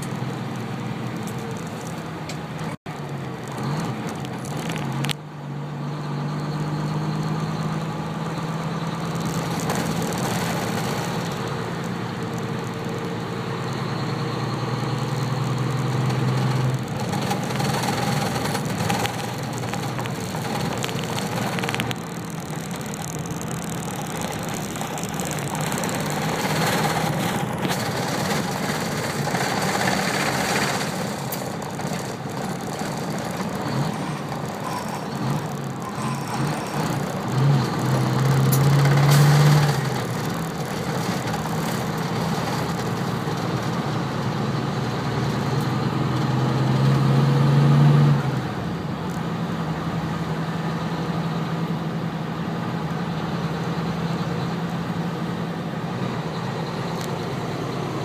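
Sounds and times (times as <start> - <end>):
road noise: 0.0 - 58.0
vehicle engine hum: 0.0 - 58.0.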